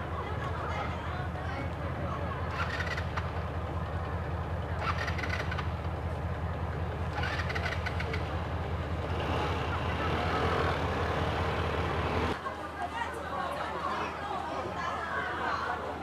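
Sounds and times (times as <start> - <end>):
low engine rumble: 0.0 - 12.9.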